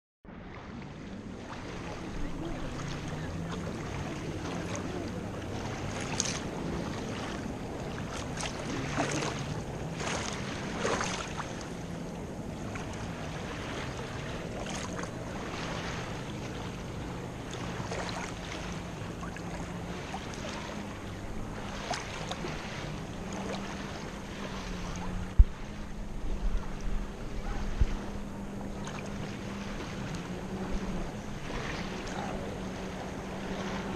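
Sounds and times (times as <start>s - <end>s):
boat engine drone: 0.3s - 33.9s
sea water sloshing: 0.3s - 33.9s
water splashes: 0.3s - 33.9s.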